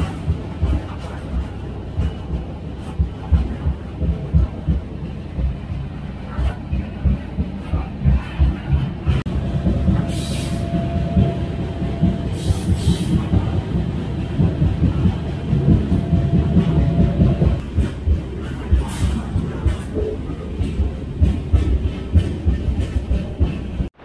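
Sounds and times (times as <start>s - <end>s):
freight car rumbling: 0.0s - 24.0s.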